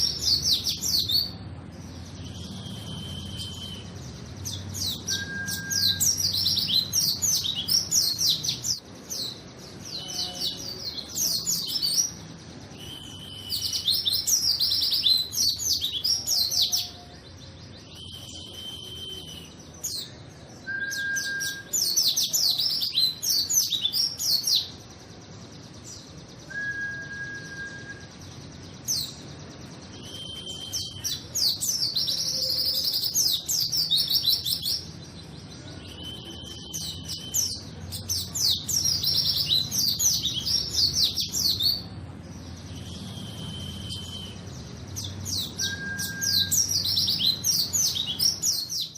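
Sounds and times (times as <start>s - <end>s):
bird twittering: 0.0s - 48.9s
bird whistled notes: 2.3s - 9.3s, 9.9s - 17.1s, 17.8s - 24.7s, 26.4s - 28.2s, 29.9s - 34.9s, 35.7s - 41.9s, 42.7s - 48.9s.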